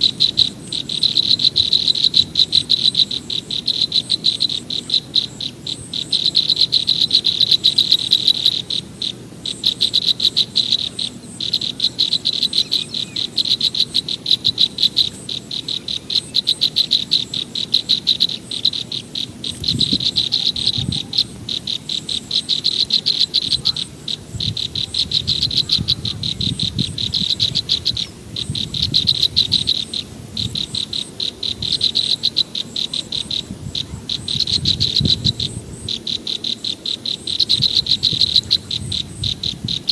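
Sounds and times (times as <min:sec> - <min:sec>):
frogs and insects chirping: 0:00.0 - 0:39.9.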